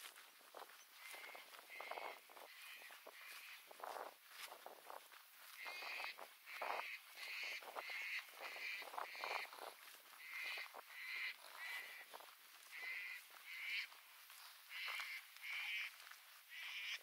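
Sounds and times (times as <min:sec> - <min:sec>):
footsteps on dry ground: 0:00.0 - 0:17.0
bird calling: 0:00.1 - 0:03.8, 0:05.5 - 0:17.0.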